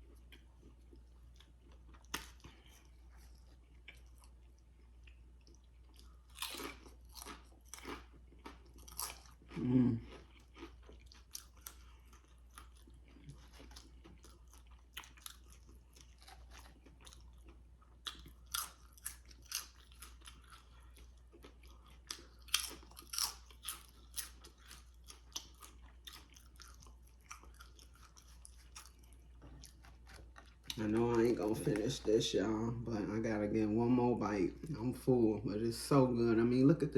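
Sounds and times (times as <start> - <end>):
person chewing food: 0.0 - 32.5.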